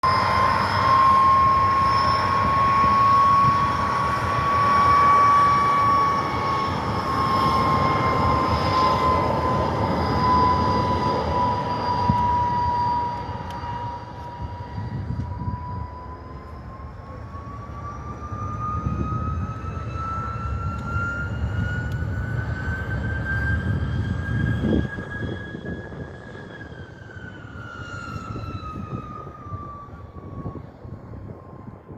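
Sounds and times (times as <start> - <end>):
piston aircraft engines running: 0.0 - 31.9.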